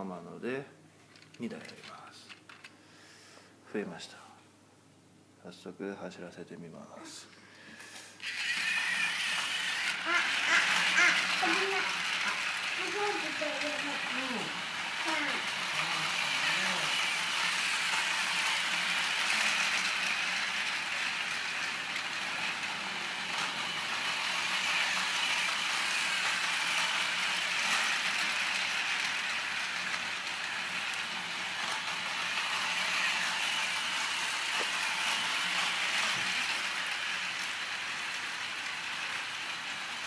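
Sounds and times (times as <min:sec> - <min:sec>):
toy train motor whirring: 0:07.8 - 0:40.0.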